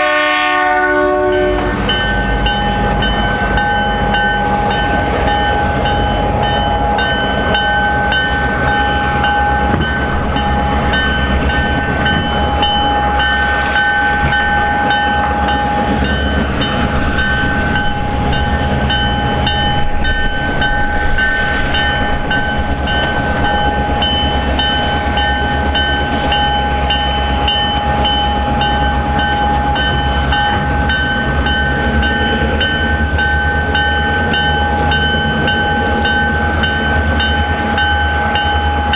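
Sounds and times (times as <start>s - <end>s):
freight train rumbling: 0.0s - 38.9s.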